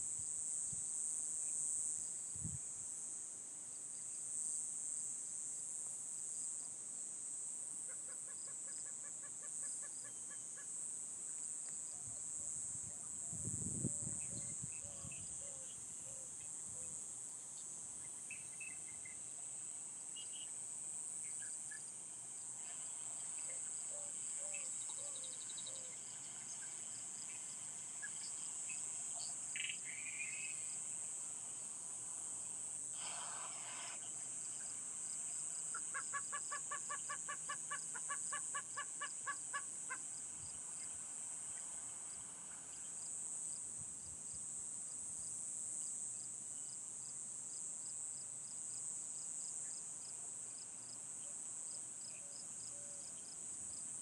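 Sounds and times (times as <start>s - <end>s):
insects trilling: 3.8s - 54.0s.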